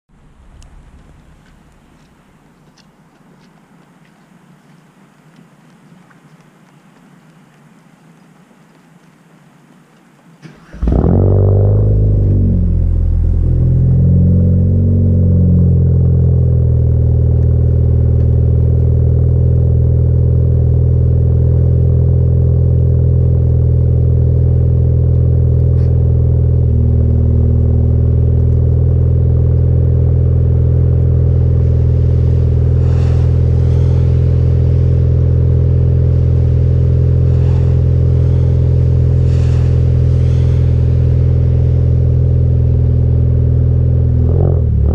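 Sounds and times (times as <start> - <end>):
car engine starting and idling: 0.1 - 2.5, 10.4 - 44.9.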